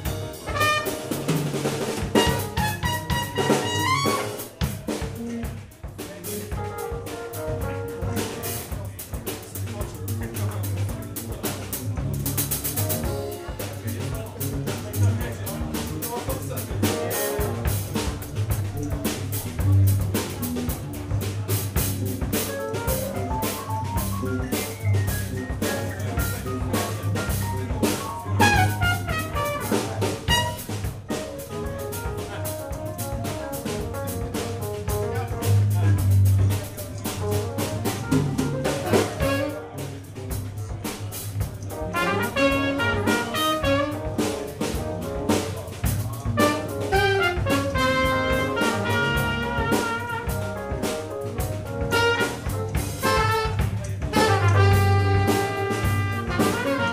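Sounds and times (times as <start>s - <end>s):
keyboard: 0.0s - 4.6s, 6.3s - 39.8s, 40.6s - 56.9s
electric bass: 0.0s - 5.7s, 6.5s - 56.9s
drum kit with cymbals: 0.0s - 56.9s
jazz band playing live: 0.0s - 56.9s.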